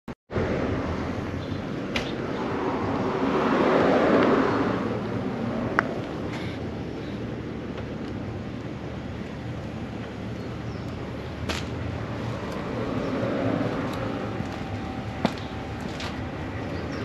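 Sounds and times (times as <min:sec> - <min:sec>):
low outdoor background rumble: 0:00.3 - 0:17.0.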